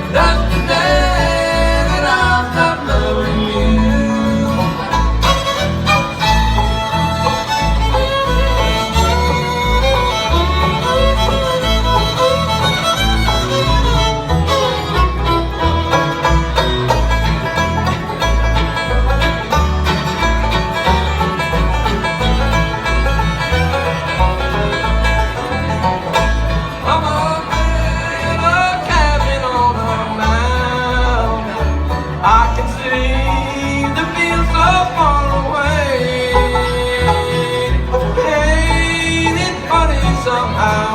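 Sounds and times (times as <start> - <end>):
banjo: 0.0 - 40.9
bass beat: 0.0 - 40.9
fiddle melody: 0.0 - 40.9
guitar: 0.0 - 40.9.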